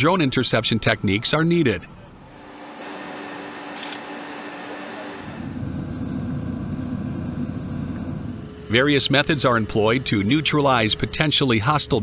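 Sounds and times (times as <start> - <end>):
machinery hum and hiss: 2.1 - 12.0.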